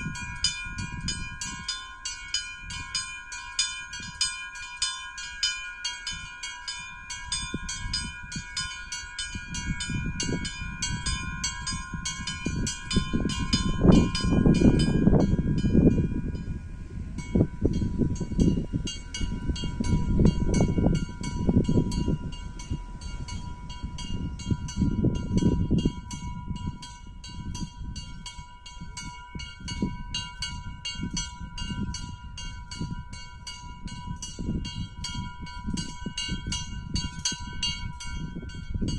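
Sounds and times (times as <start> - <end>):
small bells pealing: 0.0 - 38.9
wind rumble on microphone: 0.0 - 38.9.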